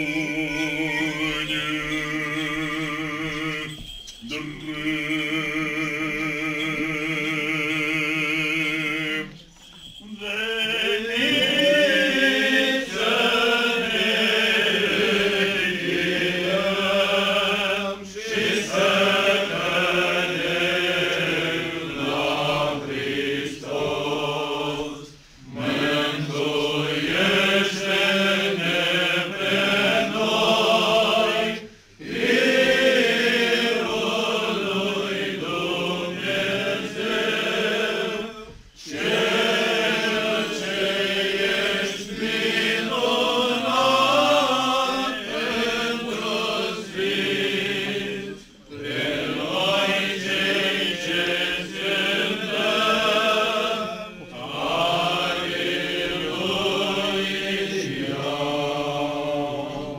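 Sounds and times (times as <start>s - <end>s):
voices chanting a hymn: 0.0s - 59.9s.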